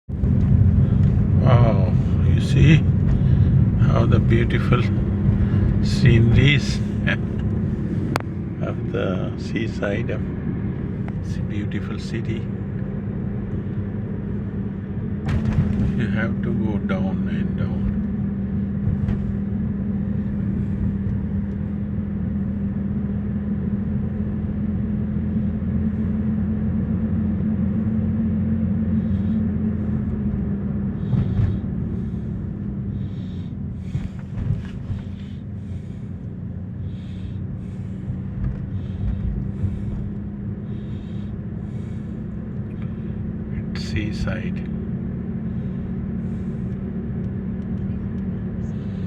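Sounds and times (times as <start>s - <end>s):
car engine and road hum: 0.0s - 49.0s.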